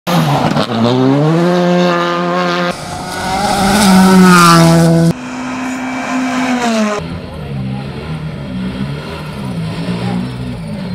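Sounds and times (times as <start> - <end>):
rally car engine revving: 0.1 - 10.9.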